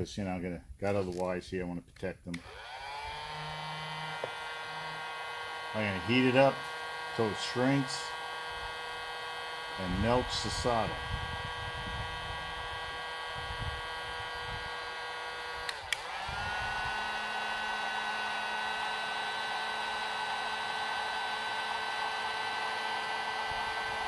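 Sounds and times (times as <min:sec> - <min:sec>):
heat gun whine and hot air rush: 0:02.3 - 0:24.0.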